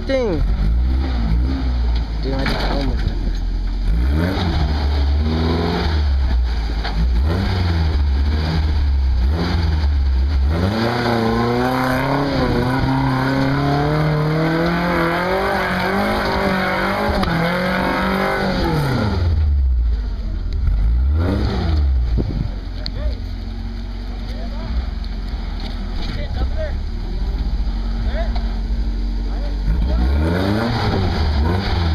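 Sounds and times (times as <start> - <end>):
truck engine revving: 0.0 - 31.9.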